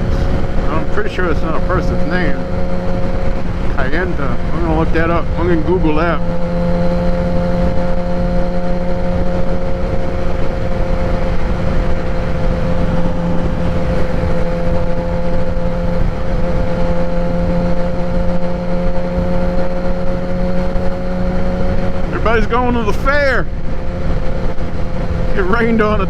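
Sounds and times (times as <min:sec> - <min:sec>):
motorcycle engine cruising: 0:00.0 - 0:26.0
wind buffeting: 0:00.0 - 0:26.0.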